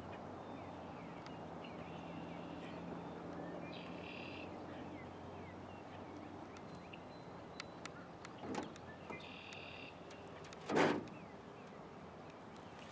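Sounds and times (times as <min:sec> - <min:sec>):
small birds chirping: 0:00.1 - 0:12.9.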